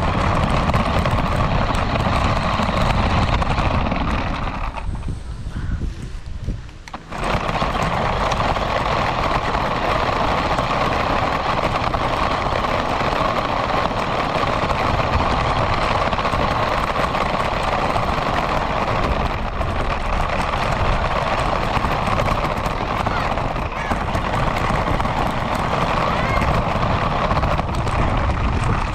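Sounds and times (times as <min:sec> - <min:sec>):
radio-controlled car running: 0:00.0 - 0:28.9.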